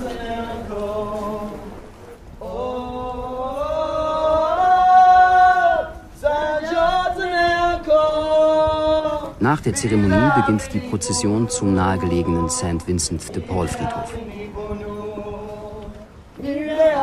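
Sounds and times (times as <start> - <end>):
person singing unaccompanied: 0.0 - 17.0.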